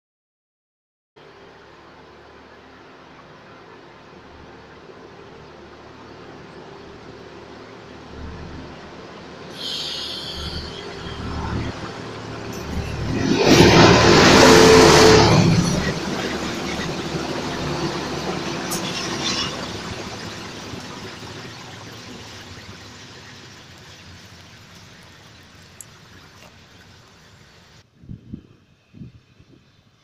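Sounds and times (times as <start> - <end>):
diesel railcar passing: 1.2 - 27.9.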